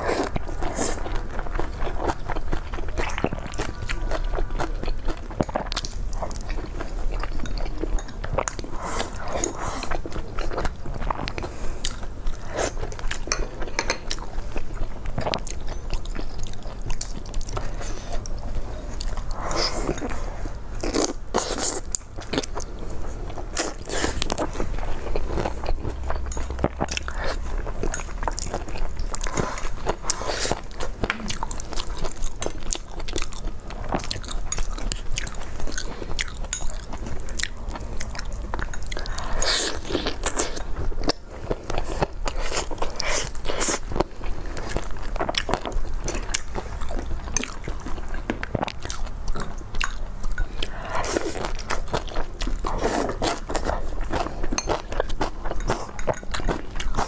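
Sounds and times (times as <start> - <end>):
people chewing food: 0.0 - 57.0.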